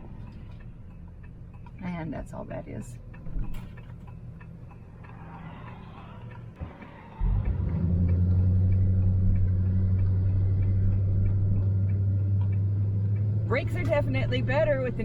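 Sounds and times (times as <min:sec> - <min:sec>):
faint light ticking: 0:00.0 - 0:15.0
van engine rumble: 0:00.0 - 0:15.0.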